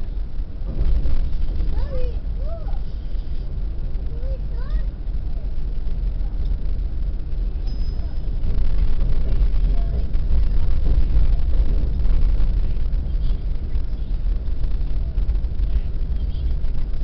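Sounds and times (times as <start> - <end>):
train rumbling across bridge: 0.0 - 17.0.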